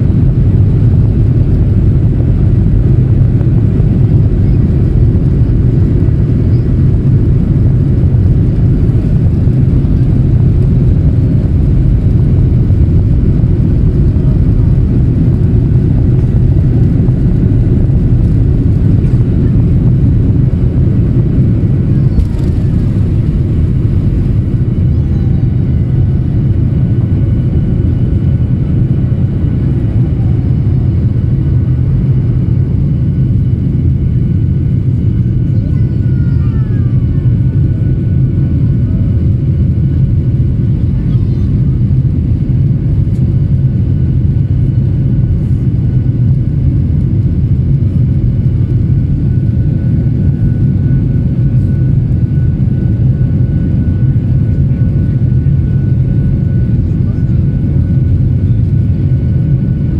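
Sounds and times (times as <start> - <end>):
jet engines deep rumble: 0.0 - 59.9.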